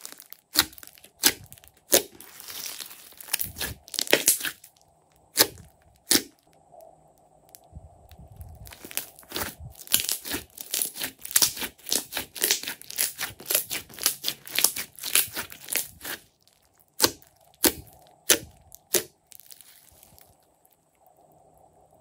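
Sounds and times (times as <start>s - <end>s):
slime popping: 0.0s - 6.5s, 8.6s - 20.3s
slime squelching: 0.0s - 6.5s, 8.3s - 20.8s.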